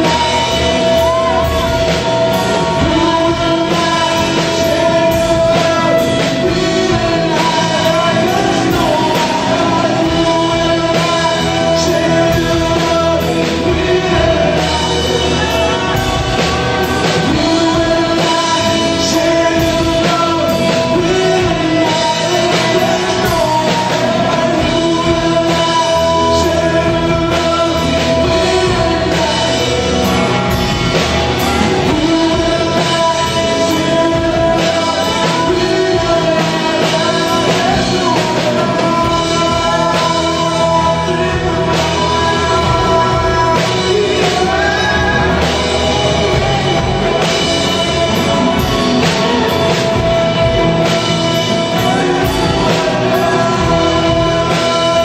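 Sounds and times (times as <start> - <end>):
live rock band with singers: 0.0 - 55.0.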